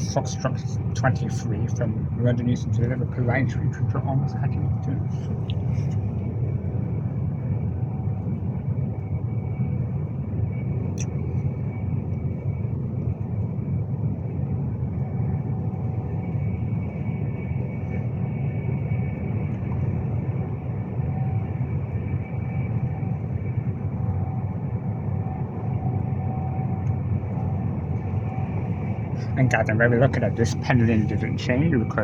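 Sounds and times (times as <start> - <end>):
faint steady whine: 0.0 - 32.0
train rumbling at speed: 0.0 - 32.0.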